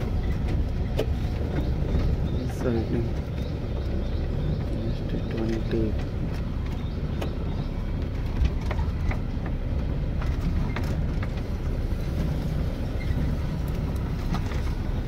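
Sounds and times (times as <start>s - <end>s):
jeep engine rumbling at low revs: 0.0s - 15.0s.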